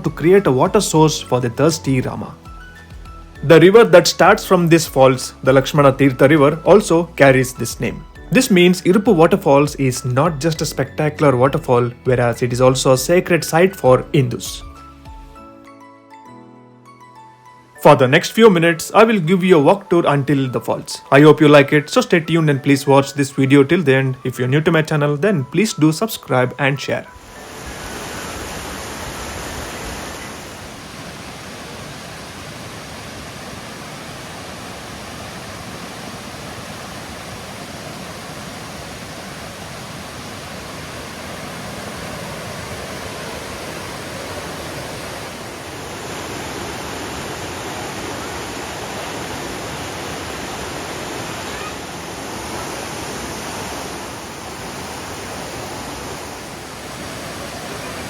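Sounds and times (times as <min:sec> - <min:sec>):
water rushing: 0:00.0 - 0:15.4, 0:17.8 - 0:58.0.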